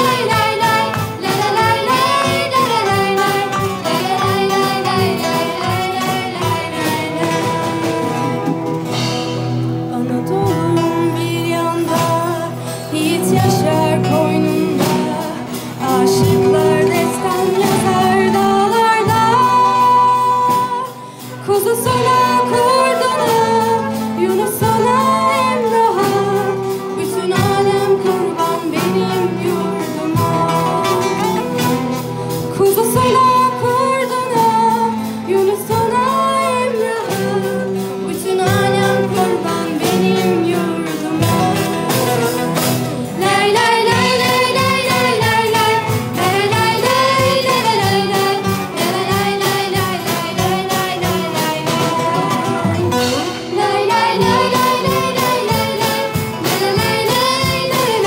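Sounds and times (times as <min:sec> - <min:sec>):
women singing: 0:00.0 - 0:09.1, 0:09.7 - 0:58.0
strummed acoustic guitars: 0:00.0 - 0:58.0.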